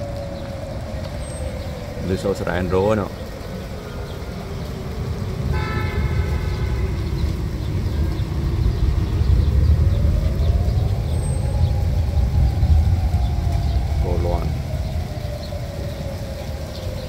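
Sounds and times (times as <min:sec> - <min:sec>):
low rumble: 0:03.1 - 0:17.0.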